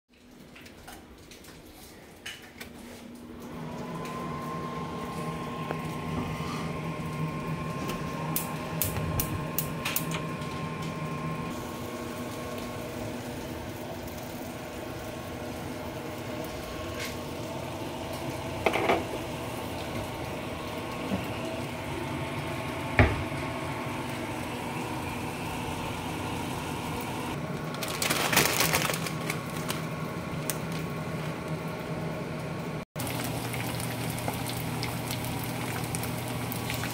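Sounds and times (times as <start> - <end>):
range hood fan humming: 0.2 - 36.9.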